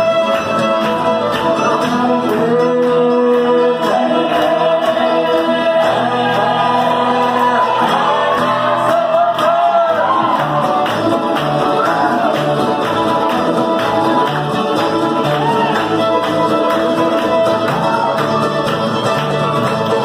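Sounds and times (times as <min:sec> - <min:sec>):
fiddles playing melody: 0:00.0 - 0:09.2, 0:09.8 - 0:20.0
strummed guitar: 0:00.0 - 0:20.0.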